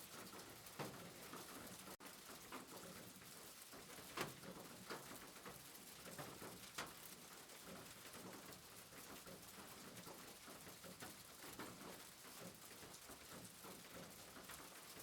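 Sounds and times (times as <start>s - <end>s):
soft rain: 0.0s - 15.0s.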